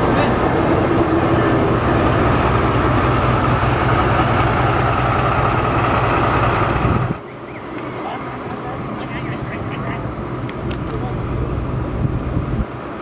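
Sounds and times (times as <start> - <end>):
diesel locomotive engine idling: 0.0 - 13.0.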